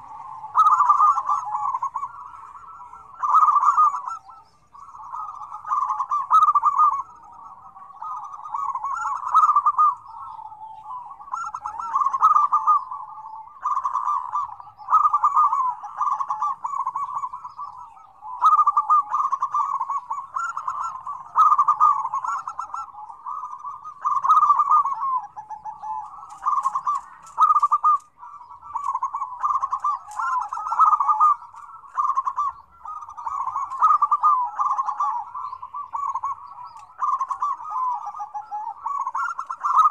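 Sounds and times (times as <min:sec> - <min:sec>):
doves cooing in chorus: 0:00.0 - 0:39.9.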